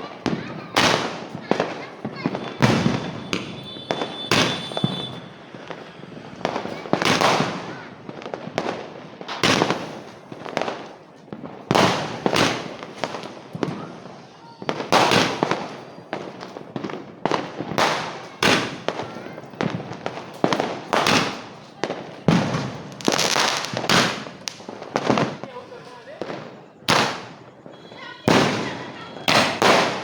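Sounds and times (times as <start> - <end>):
firecrackers banging: 0.0 - 30.0.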